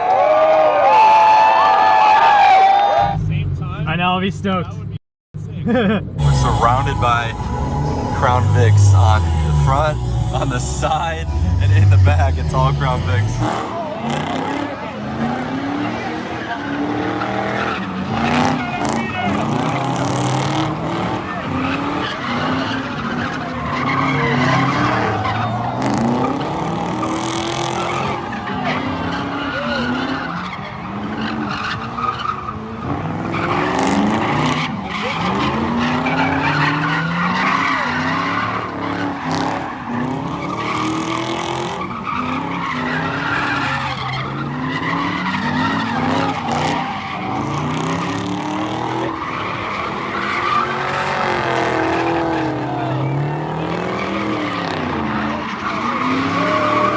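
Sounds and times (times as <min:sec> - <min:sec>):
tires squealing and skidding: 0:00.0 - 0:03.3, 0:06.2 - 0:56.9
car engine revving: 0:05.5 - 0:56.9.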